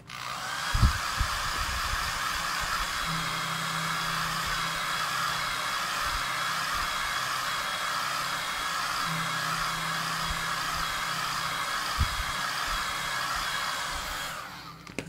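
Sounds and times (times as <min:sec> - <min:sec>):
hand-held dryer blowing: 0:00.0 - 0:15.0.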